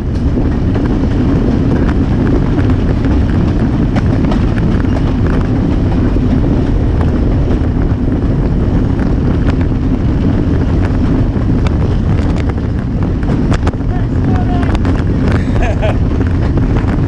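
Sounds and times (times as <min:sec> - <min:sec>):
passenger train running: 0:00.0 - 0:17.0
wind buffeting microphone: 0:00.0 - 0:17.0.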